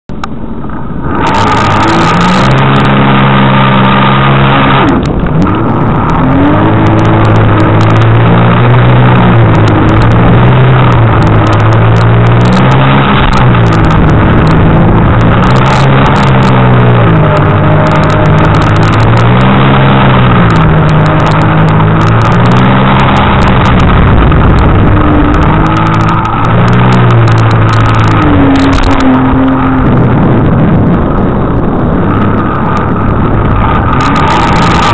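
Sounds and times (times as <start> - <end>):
rushing water and spray: 0.1 - 34.9
jet ski engine revving: 0.3 - 34.9.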